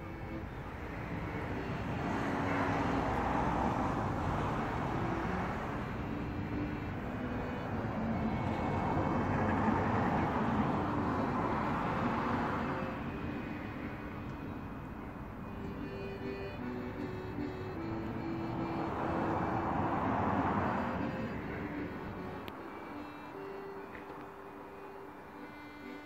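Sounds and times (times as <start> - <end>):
passing vehicles: 0.0 - 26.0.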